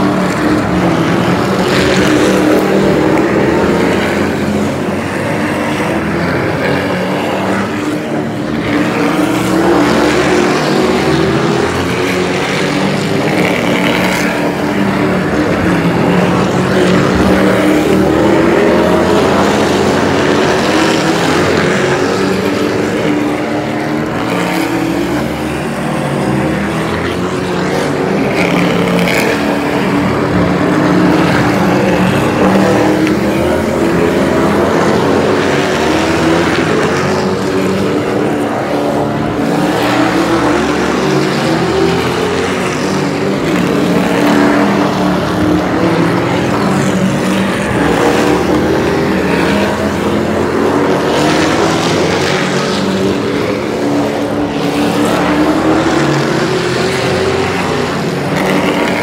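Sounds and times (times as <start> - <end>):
race truck engines passing: 0.0 - 59.0.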